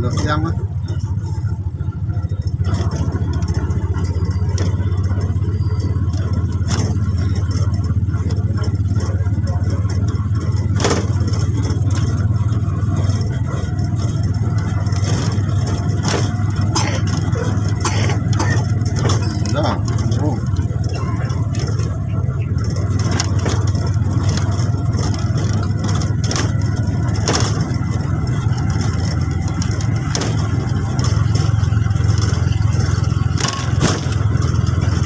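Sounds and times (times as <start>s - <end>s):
motorcycle engine running: 0.0s - 35.0s
vehicle body knocks and rattles: 0.0s - 35.0s.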